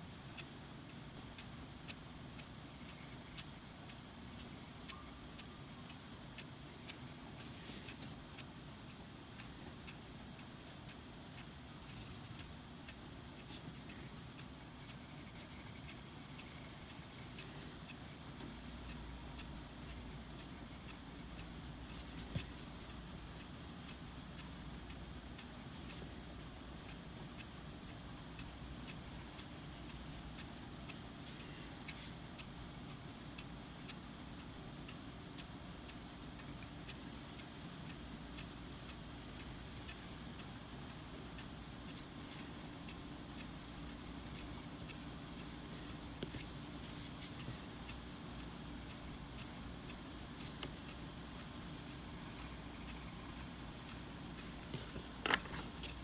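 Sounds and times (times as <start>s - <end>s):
low steady hum: 0.0s - 56.0s
light ticks: 0.3s - 56.0s.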